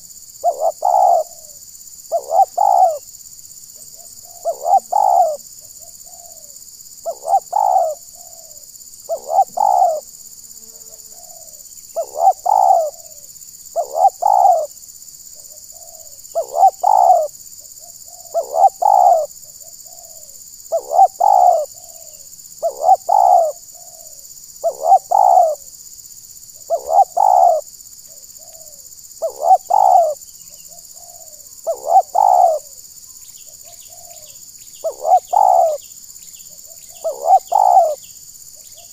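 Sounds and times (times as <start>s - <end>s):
dove cooing: 0.0s - 3.0s, 4.0s - 10.1s, 10.8s - 14.7s, 15.4s - 25.7s, 26.7s - 32.8s, 33.6s - 35.8s, 36.6s - 38.9s.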